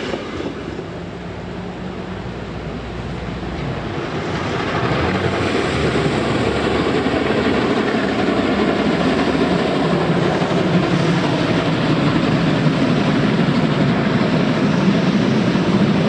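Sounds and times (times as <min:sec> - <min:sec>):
steam locomotives working hard: 0:00.0 - 0:16.0.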